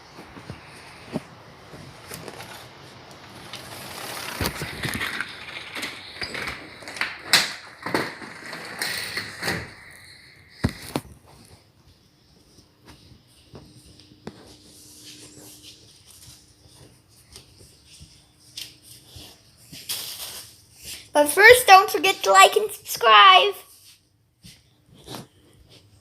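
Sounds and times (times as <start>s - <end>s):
rustling handling noise: 0.0s - 26.0s.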